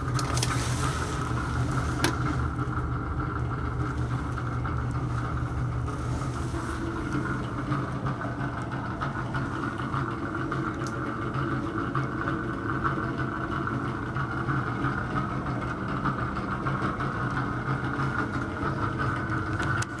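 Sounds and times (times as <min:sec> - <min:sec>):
exhaust fan humming and whining: 0:00.0 - 0:20.0.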